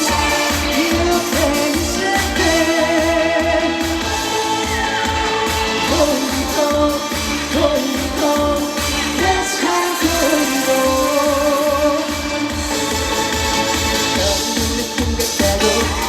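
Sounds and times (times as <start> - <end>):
man singing with vibrato: 0.0 - 12.8, 13.7 - 16.0
backing track with bass beat: 0.0 - 16.0.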